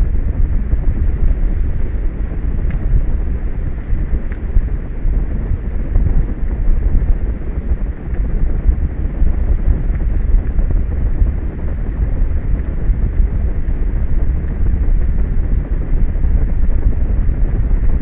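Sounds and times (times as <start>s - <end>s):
wind blowing across microphone: 0.0s - 18.0s.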